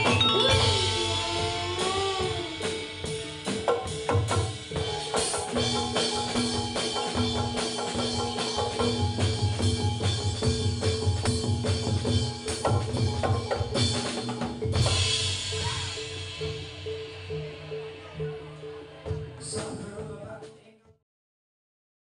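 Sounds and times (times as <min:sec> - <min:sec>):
driving drum beat: 0:00.0 - 0:18.5
metallophones ringing: 0:00.0 - 0:19.4.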